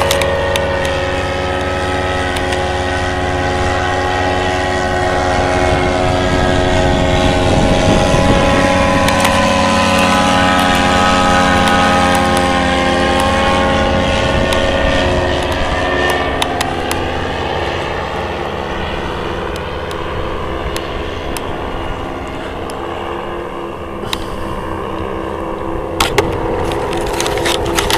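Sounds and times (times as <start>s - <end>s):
paramotor engine droning overhead: 0.0s - 27.9s.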